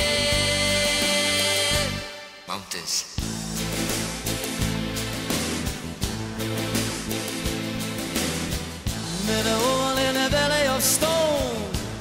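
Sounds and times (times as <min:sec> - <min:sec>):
instrumental song passage: 0:00.0 - 0:12.0.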